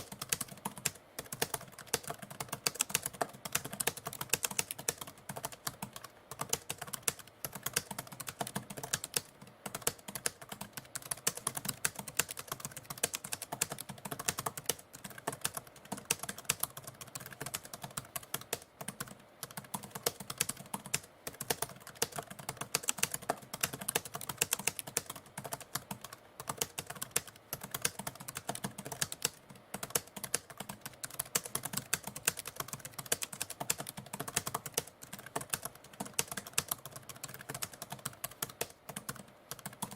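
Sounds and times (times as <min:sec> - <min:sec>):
typewriter keys typing: 0:00.0 - 0:39.9.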